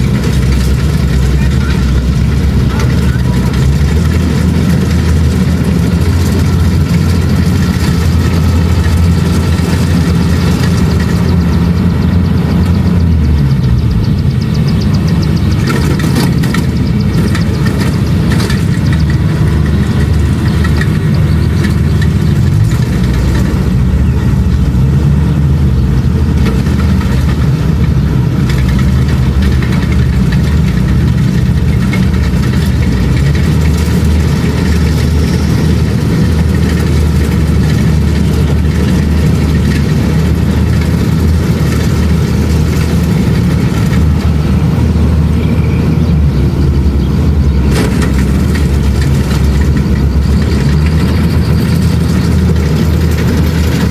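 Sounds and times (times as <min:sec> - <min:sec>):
combine harvester engine drone: 0:00.0 - 0:53.9.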